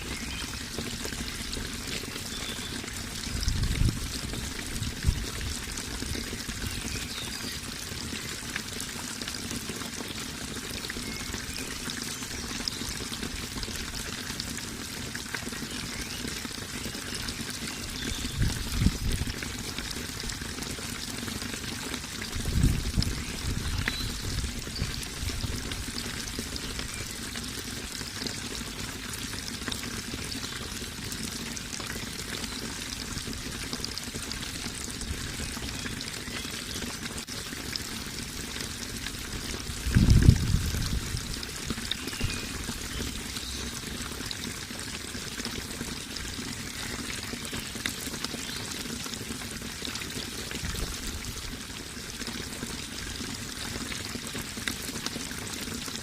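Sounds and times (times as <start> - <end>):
water pouring and splashing: 0.0 - 56.0.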